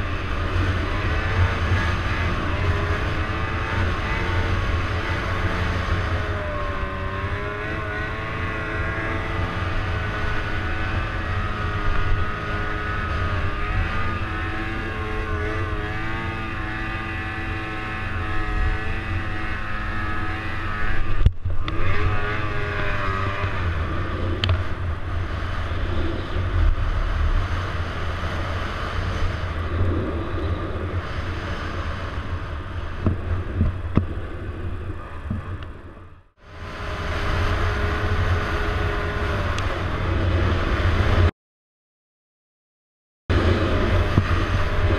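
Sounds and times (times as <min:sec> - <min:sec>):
snowmobile engine under throttle: 0:00.0 - 0:41.3, 0:43.3 - 0:44.9.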